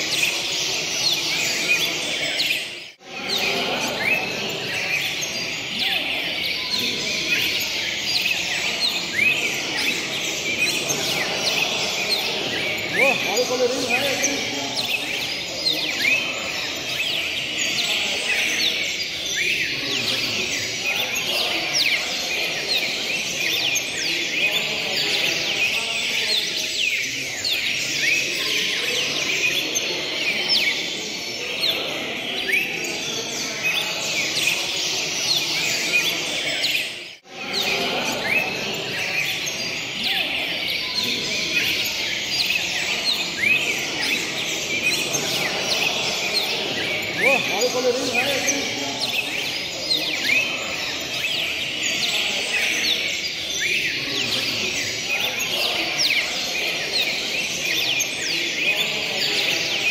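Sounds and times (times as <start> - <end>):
caged songbirds singing: 0.0 - 59.9
low background murmur: 0.0 - 59.9.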